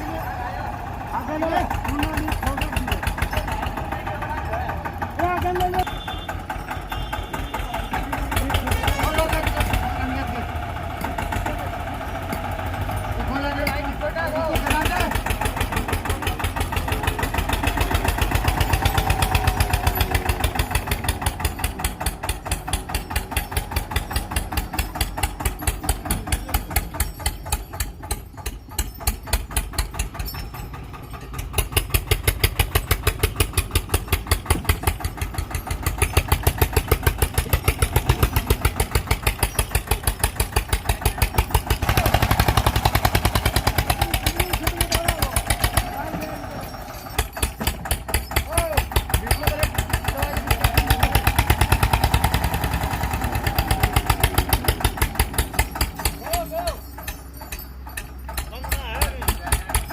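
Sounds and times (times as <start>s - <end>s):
diesel tractor engine chugging: 0.0s - 59.9s.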